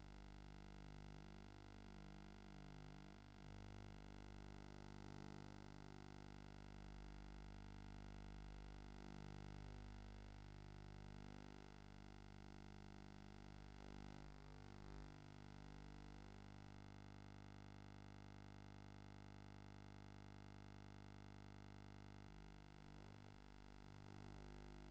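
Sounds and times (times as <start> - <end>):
faint hum with hiss: 0.0 - 24.9.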